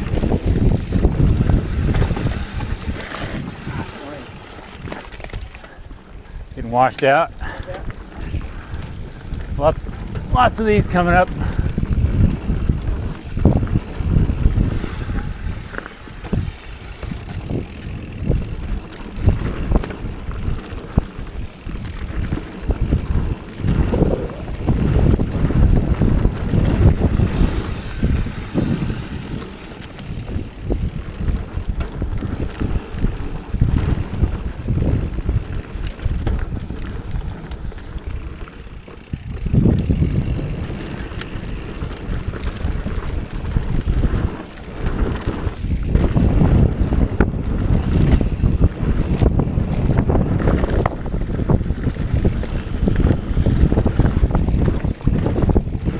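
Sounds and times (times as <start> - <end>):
bike knocking and rattling: 0.0 - 55.9
bike tyres rumbling on dirt: 0.0 - 55.9
wind rumbling on microphone: 0.0 - 55.9.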